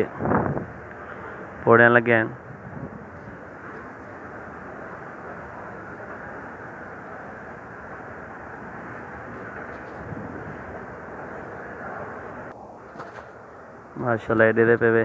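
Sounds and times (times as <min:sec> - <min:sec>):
shopping mall background rumble: 0:00.0 - 0:15.0.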